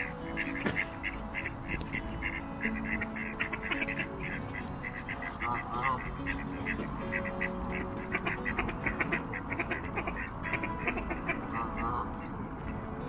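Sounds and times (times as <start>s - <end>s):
ducks quacking: 0.0s - 12.4s.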